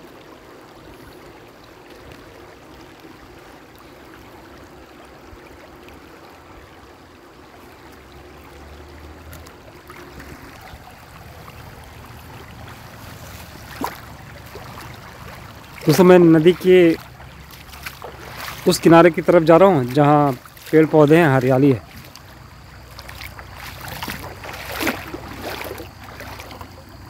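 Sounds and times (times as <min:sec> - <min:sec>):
river water flowing over stones: 0:00.0 - 0:27.0.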